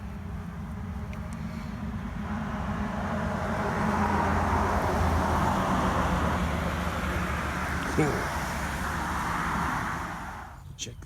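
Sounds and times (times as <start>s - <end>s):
motor vehicle humming: 0.0s - 10.8s.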